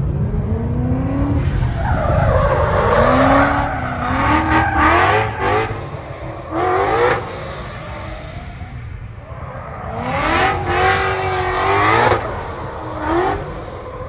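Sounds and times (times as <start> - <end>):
car engine revving hard: 0.2 - 8.8, 9.7 - 14.0.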